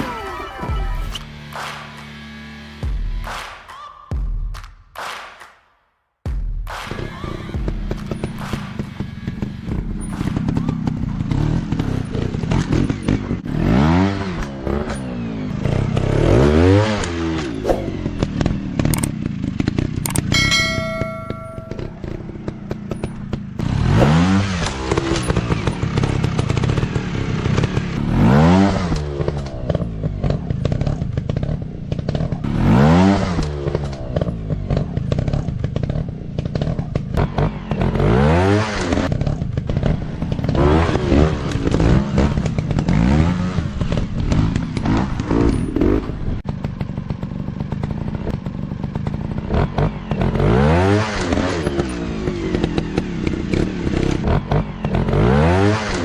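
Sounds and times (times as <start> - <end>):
dirt bike engine revving: 7.4 - 56.0.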